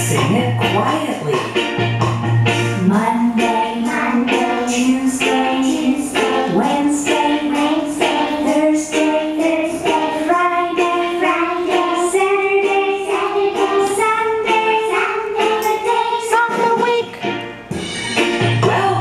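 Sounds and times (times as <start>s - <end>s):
woman singing children's song: 0.0s - 1.6s, 2.7s - 17.2s, 18.6s - 19.0s
music: 0.0s - 19.0s.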